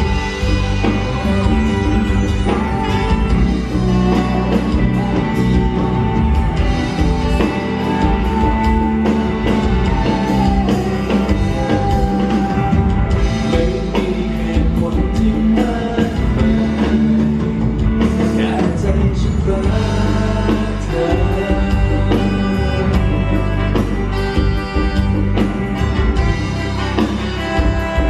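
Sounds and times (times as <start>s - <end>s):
live band playing pop-rock: 0.0s - 28.0s.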